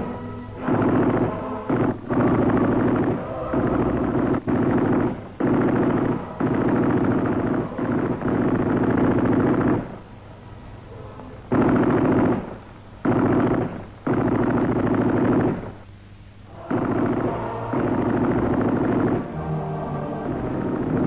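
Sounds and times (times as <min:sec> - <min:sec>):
machine-gun fire in bursts: 0:00.0 - 0:10.1, 0:11.5 - 0:15.9, 0:16.5 - 0:21.0.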